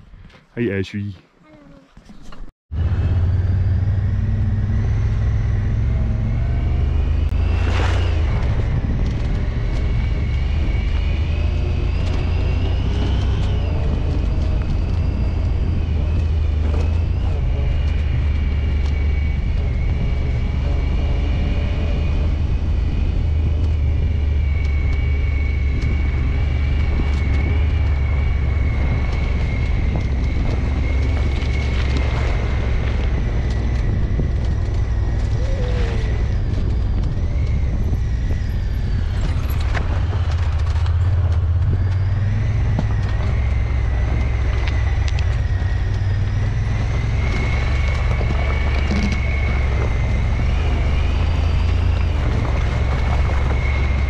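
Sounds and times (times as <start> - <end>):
utility vehicle engine droning: 2.0 - 54.0.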